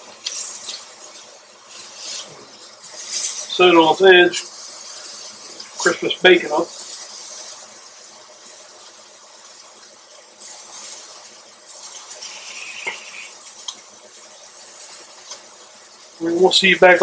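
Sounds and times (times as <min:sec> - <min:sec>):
steaks sizzling in a skillet: 0:00.0 - 0:17.0.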